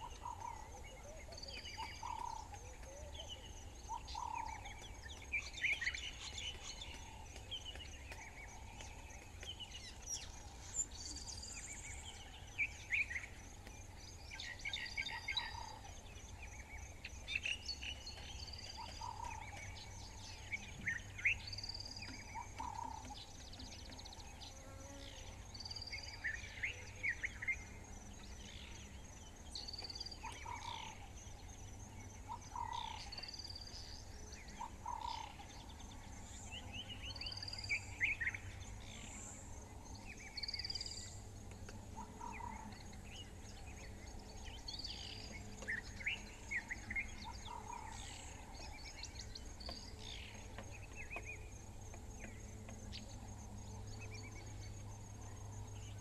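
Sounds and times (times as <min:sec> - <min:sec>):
birds calling and singing: 0:00.0 - 0:56.0.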